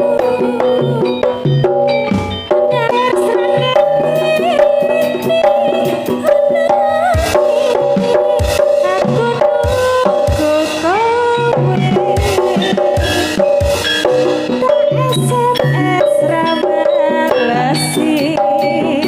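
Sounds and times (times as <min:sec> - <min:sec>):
band playing: 0:00.0 - 0:19.0
hand drum strokes: 0:00.0 - 0:19.0
sliding melody line: 0:00.0 - 0:19.0.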